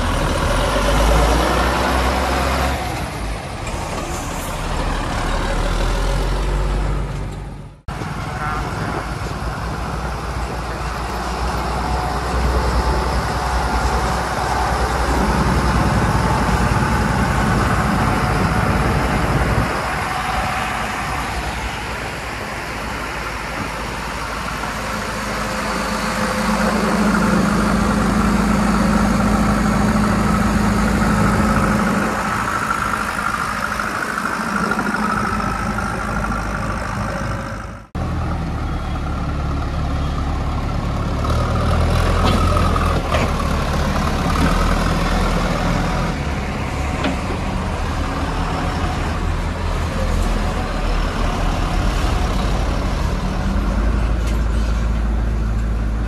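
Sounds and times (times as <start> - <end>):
deep heavy engine: 0.0 - 56.0
diesel engine running: 0.0 - 56.0.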